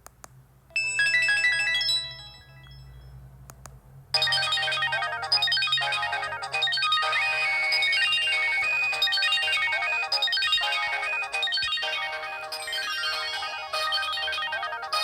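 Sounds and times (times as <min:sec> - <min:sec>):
electronic phone ringtone: 0:00.7 - 0:03.1, 0:04.2 - 0:15.0.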